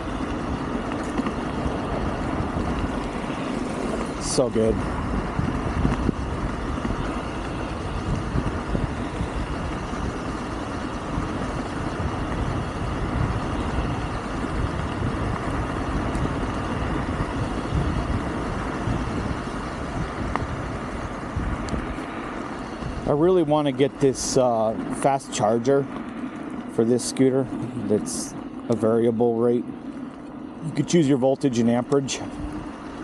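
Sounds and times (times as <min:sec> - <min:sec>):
faint steady whine: 0:00.0 - 0:33.0
scooter tyre noise: 0:00.0 - 0:33.0
wind rushing over microphone: 0:00.0 - 0:33.0.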